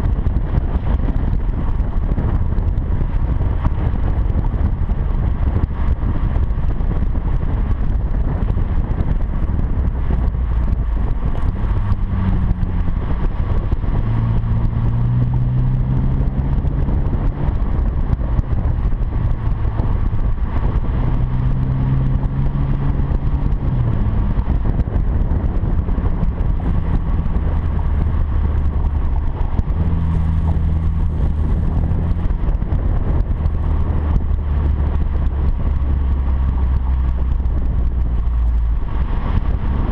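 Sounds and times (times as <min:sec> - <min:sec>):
car exhaust drone: 0:00.0 - 0:39.9
wind and road noise: 0:00.0 - 0:39.9.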